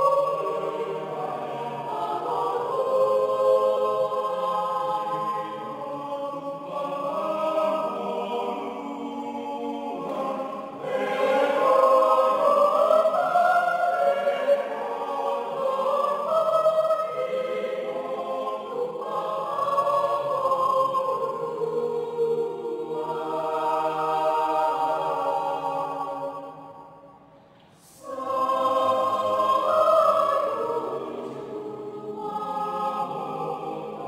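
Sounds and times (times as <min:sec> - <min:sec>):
mixed choir singing: 0:00.0 - 0:34.0.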